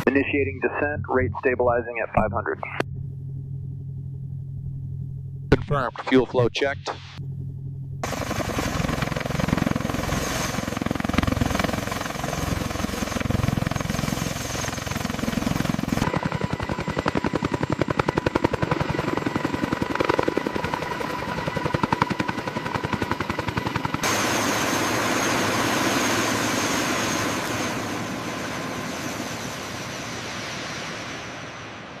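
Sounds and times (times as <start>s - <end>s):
high turbine whine: 0.0s - 32.0s.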